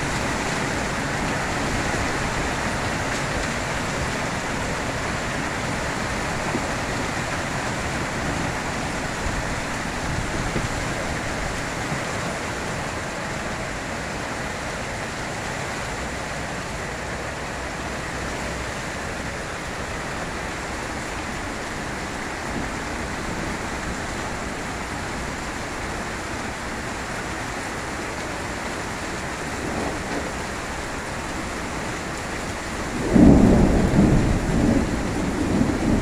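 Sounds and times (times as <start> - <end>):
hail and rain pouring down: 0.0 - 36.0.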